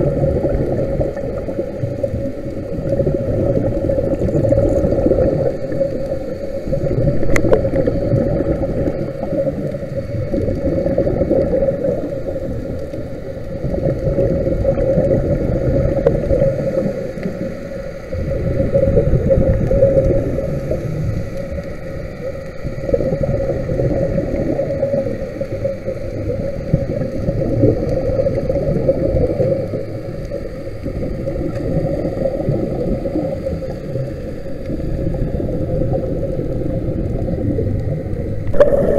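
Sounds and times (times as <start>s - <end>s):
steady hum: 0.0s - 38.9s
underwater churning rumble: 0.0s - 38.9s.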